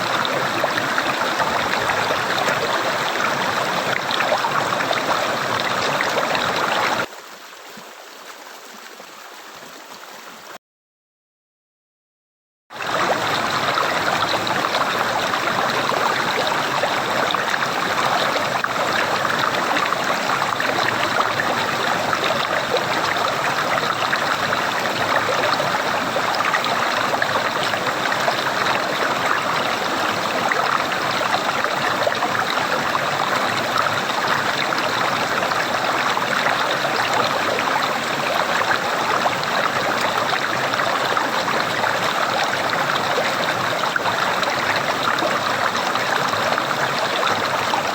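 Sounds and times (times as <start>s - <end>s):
water gurgling: 0.0s - 10.5s, 12.7s - 47.9s.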